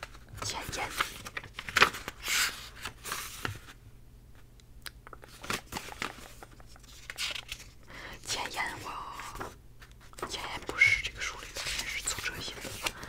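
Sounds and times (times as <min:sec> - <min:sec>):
book pages rustling: 0:00.0 - 0:03.8, 0:05.2 - 0:07.8, 0:08.5 - 0:13.0.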